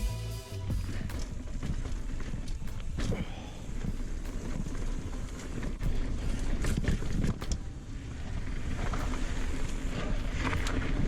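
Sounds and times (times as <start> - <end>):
bike knocking and rattling: 0.7 - 11.0
wind buffeting microphone: 0.8 - 11.0.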